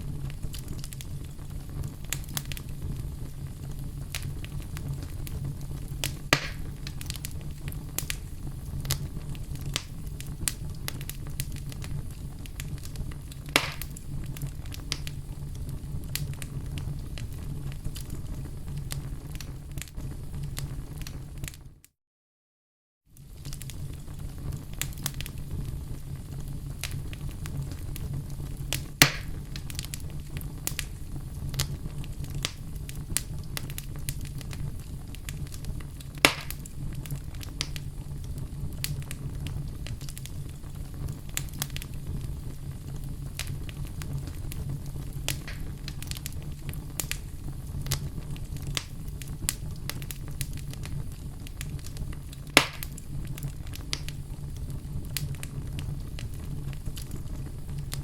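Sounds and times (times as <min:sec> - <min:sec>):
sharp fire pops: 0:00.0 - 0:21.6, 0:23.2 - 0:58.0
fire crackling in a fireplace: 0:00.0 - 0:21.9, 0:23.0 - 0:58.0.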